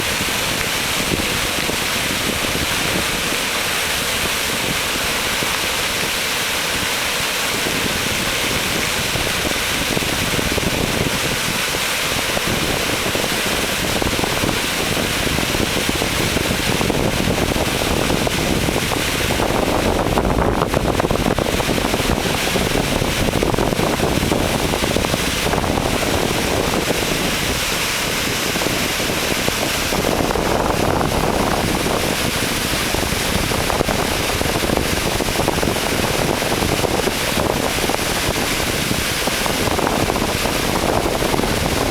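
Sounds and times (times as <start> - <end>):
rush of released water: 0.0 - 41.9.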